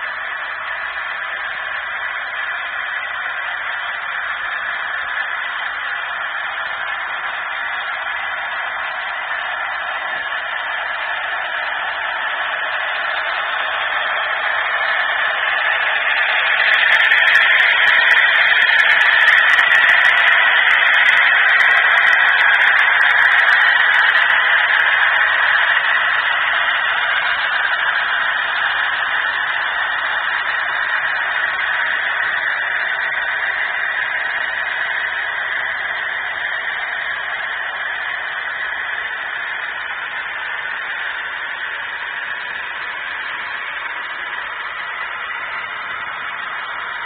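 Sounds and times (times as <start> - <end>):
model train rolling on track: 0.0 - 47.0.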